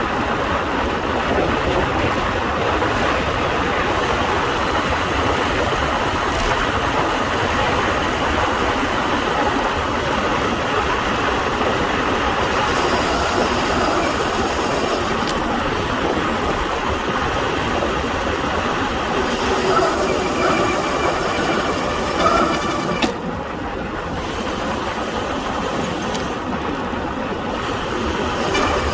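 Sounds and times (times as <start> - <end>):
road noise: 0.0 - 28.9.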